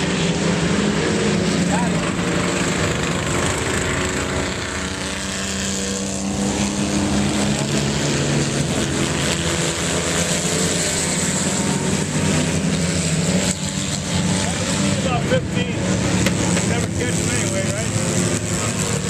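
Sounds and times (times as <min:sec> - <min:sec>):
race car engines running together: 0:00.0 - 0:19.0.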